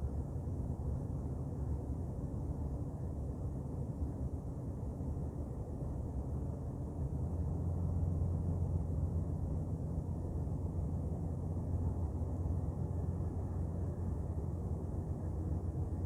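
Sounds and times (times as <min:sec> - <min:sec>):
ship engine low drone: 0:00.0 - 0:16.0.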